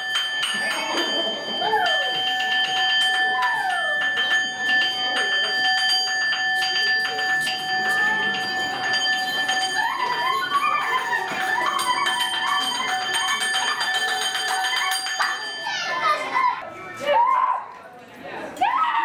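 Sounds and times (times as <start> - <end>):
bell-like ringing tone: 0.0 - 16.6.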